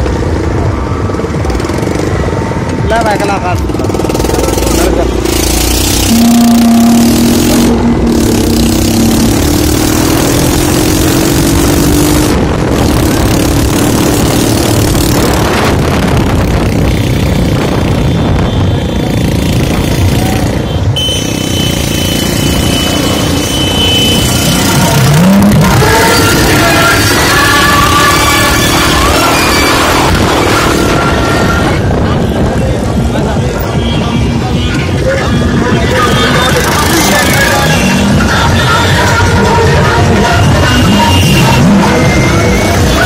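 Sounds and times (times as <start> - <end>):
motorcycle traffic: 0.0 - 43.0
vehicle engine and road noise: 0.0 - 43.0.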